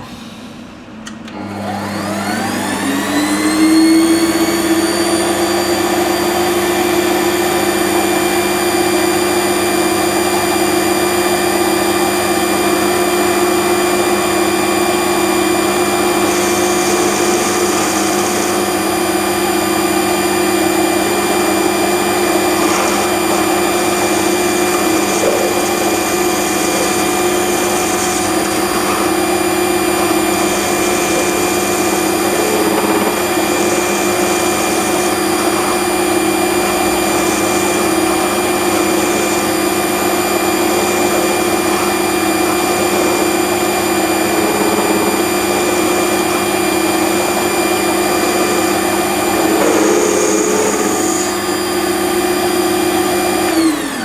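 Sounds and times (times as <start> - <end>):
metal lathe motor whine: 1.3 - 54.0.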